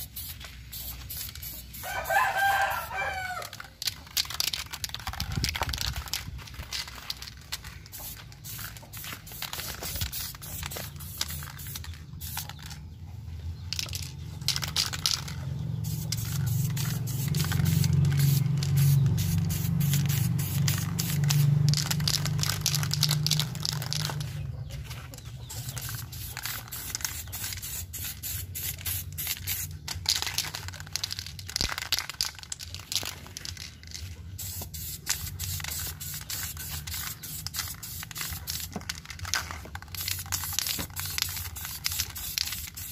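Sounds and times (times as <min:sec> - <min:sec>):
spray can hissing: 0:00.0 - 0:12.8, 0:13.8 - 0:24.4, 0:25.5 - 0:42.9.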